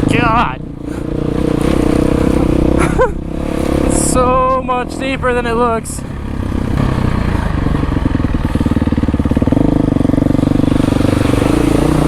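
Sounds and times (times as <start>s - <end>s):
bike pushing through muddy water: 0.0s - 12.0s
dirt bike engine revving: 0.0s - 12.0s.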